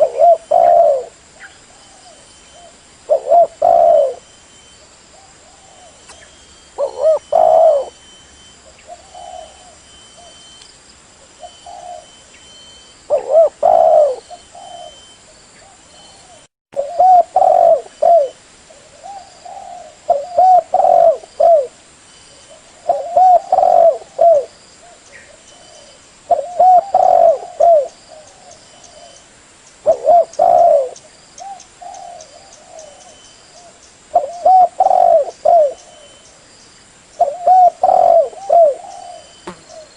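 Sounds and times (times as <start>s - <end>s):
dove cooing: 0.0s - 4.3s, 5.1s - 10.4s, 11.4s - 12.3s, 13.1s - 21.8s, 22.4s - 29.2s, 29.8s - 36.2s, 37.2s - 39.9s.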